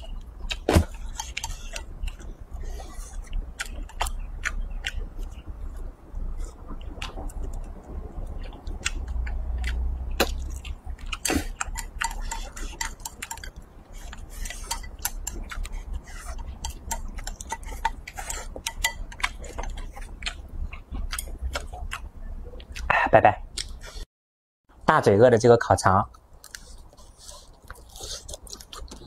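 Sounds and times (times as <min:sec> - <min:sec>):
eating sounds: 0:00.0 - 0:24.0, 0:26.1 - 0:29.0.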